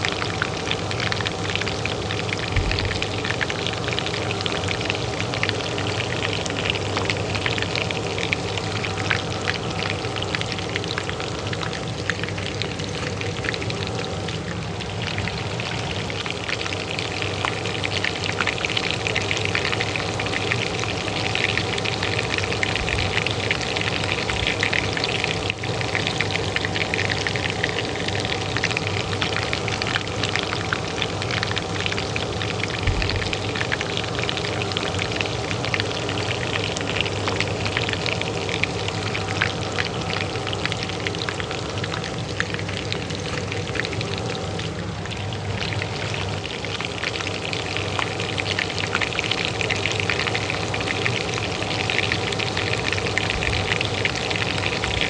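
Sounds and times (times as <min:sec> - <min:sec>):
hot oil sizzling in a pan: 0:00.0 - 0:55.0
range hood fan humming: 0:00.0 - 0:55.0.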